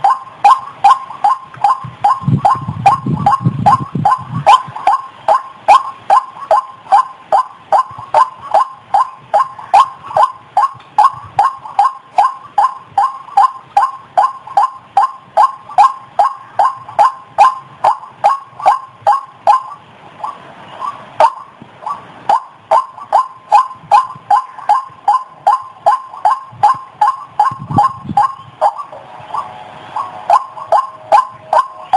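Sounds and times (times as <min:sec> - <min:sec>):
waterhen calling: 0:00.0 - 0:31.9.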